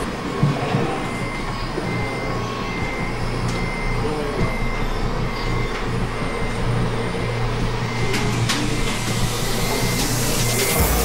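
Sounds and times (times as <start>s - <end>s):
diesel engine sound running: 0.0s - 11.0s.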